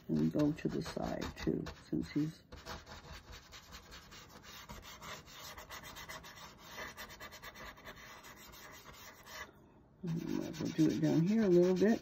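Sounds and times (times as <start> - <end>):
paintbrush rubbing on board: 0.0 - 12.0.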